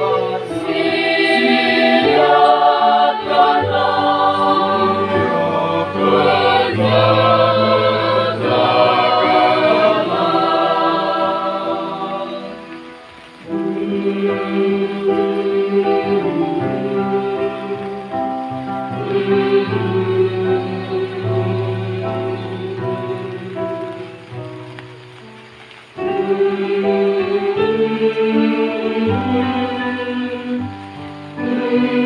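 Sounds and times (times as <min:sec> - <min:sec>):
choir singing a hymn: 0:00.0 - 0:25.2, 0:25.9 - 0:32.0.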